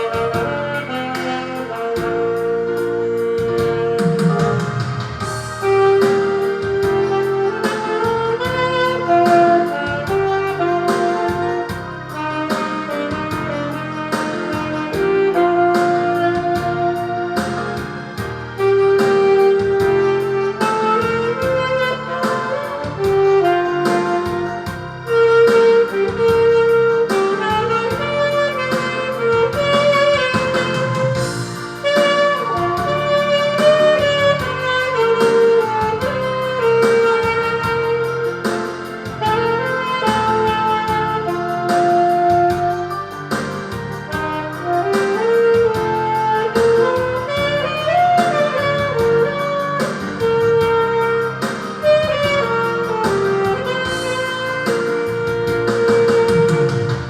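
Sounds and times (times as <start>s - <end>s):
backing track with steady beat: 0.0s - 57.0s
saxophone ballad melody: 0.0s - 57.0s.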